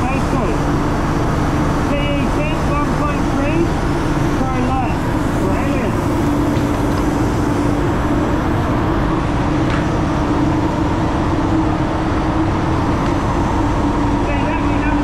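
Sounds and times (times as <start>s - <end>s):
constant low hum: 0.0s - 15.0s
ventilation fans rumbling: 0.0s - 15.0s.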